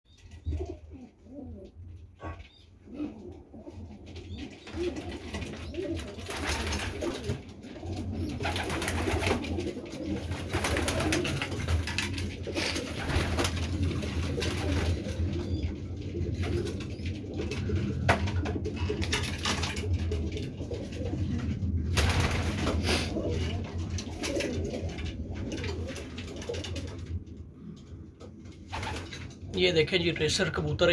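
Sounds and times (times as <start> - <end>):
pigeons cooing: 0.1 - 29.6.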